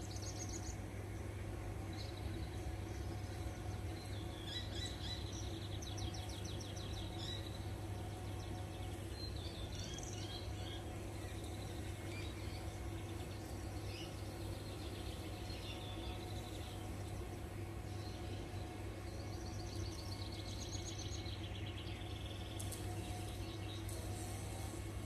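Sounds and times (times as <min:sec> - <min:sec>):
low outdoor hum: 0:00.0 - 0:25.0
small birds chirping: 0:01.9 - 0:24.9.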